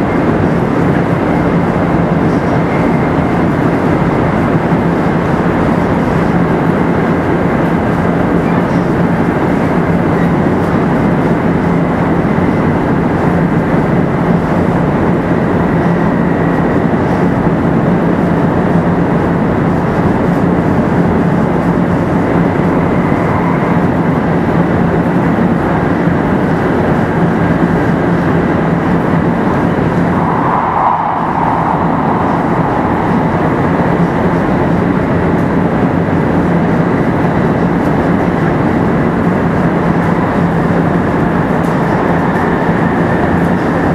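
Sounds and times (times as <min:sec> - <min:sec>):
steady low hum: 0:00.0 - 0:43.9
train wheels rumbling: 0:00.0 - 0:43.9.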